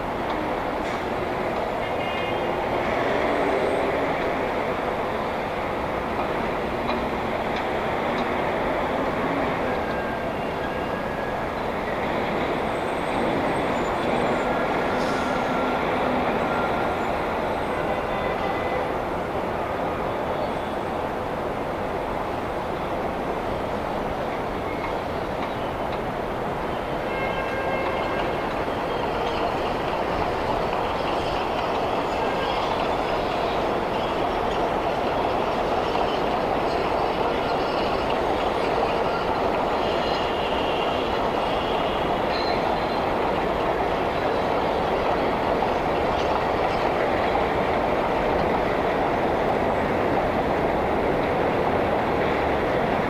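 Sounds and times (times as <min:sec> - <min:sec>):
elevated train rumbling: 0:00.0 - 0:53.0.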